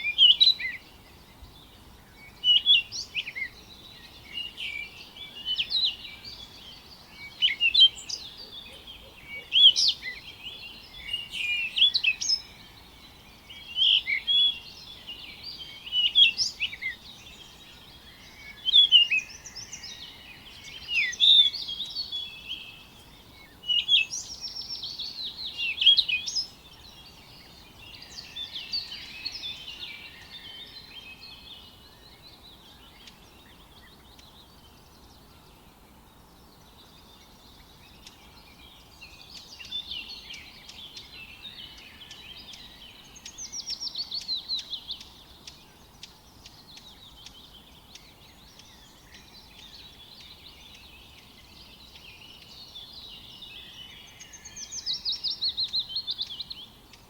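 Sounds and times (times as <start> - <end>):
faint background hiss: 0.0 - 57.0
songbirds chirping: 0.0 - 57.0.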